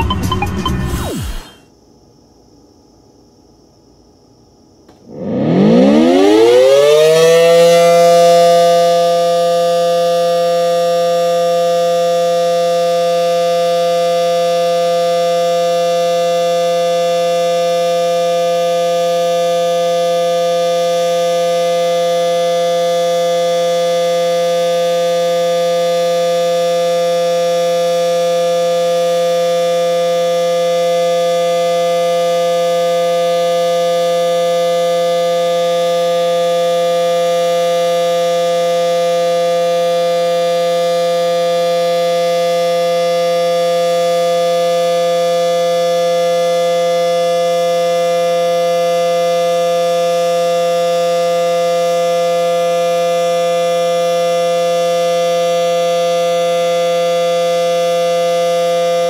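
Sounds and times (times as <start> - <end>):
warning siren steady tone: 0.0 - 1.6, 5.0 - 59.0.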